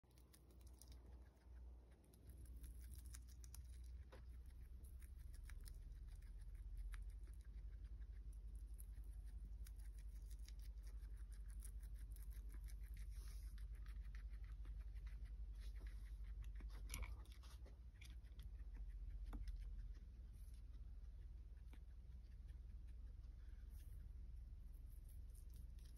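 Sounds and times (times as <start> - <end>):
guinea pig chewing leaves: 0.0 - 25.9
low steady hum: 0.0 - 25.9.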